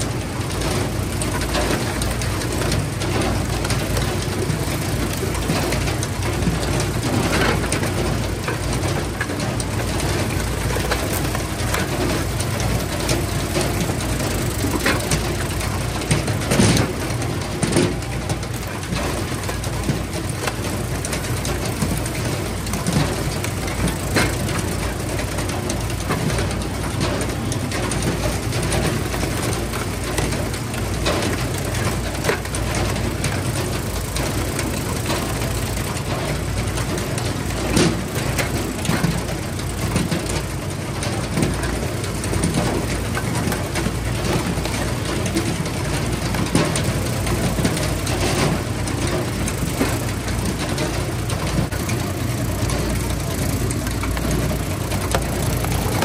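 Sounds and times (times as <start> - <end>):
log-splitting machinery engines: 0.0 - 56.0.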